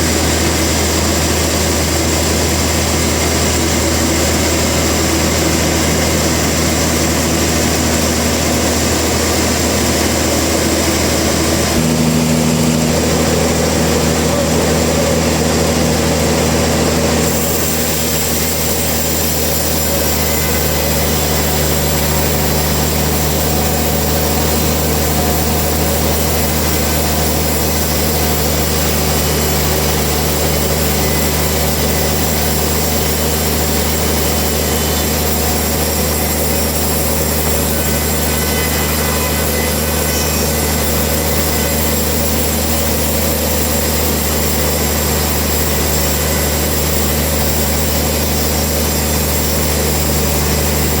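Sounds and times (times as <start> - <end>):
low engine-like hum: 0.0 - 44.7.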